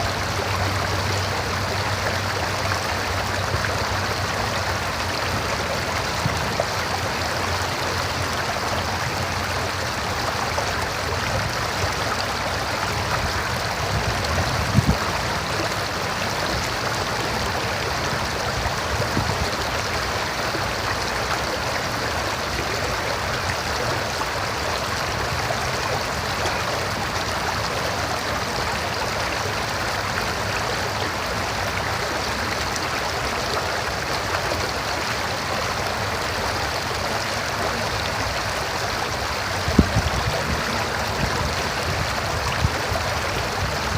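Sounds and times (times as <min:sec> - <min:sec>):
river water rushing over rocks: 0:00.0 - 0:43.9.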